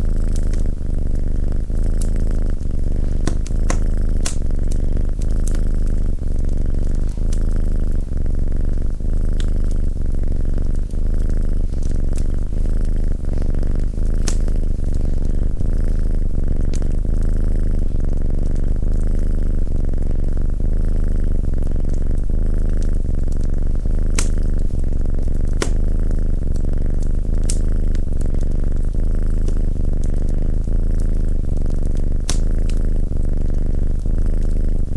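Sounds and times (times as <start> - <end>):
cat purring: 0.0 - 34.9
wood fire crackling and popping: 0.0 - 34.9.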